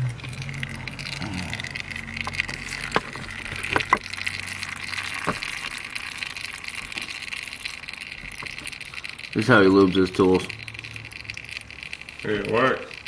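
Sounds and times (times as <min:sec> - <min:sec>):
oil dripping into a pan: 0:00.0 - 0:13.0
sharp clicks: 0:00.8 - 0:13.0.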